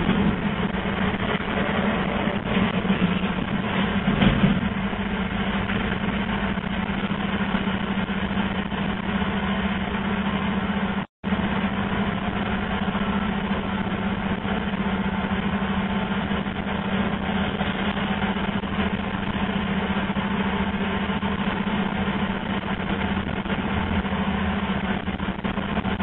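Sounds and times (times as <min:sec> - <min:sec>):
cable blowing machine droning: 0:00.0 - 0:26.0.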